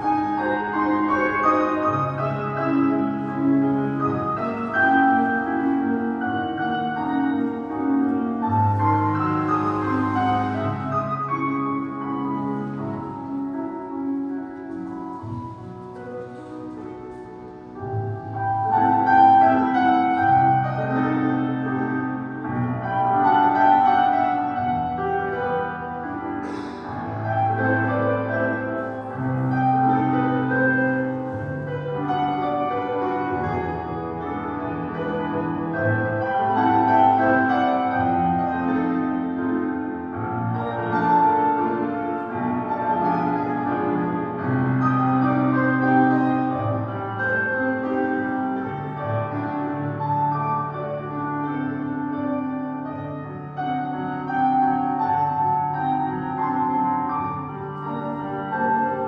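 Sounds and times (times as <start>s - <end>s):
classical piano music: 0.0s - 59.0s.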